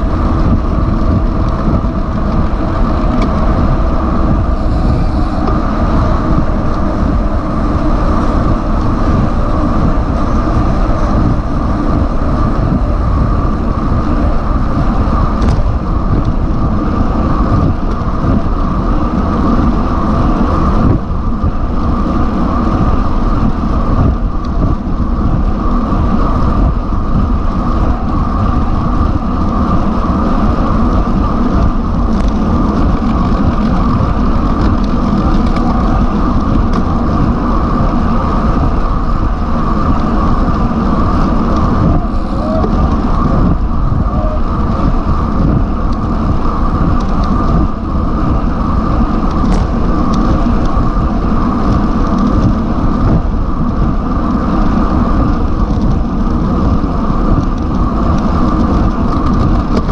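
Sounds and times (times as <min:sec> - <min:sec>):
tyre and road noise: 0:00.0 - 0:59.9
wind buffeting microphone: 0:00.0 - 0:59.9.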